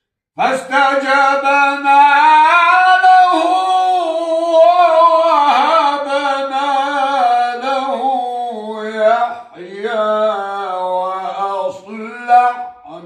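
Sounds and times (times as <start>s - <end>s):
old man chanting melodically: 0.4s - 13.0s.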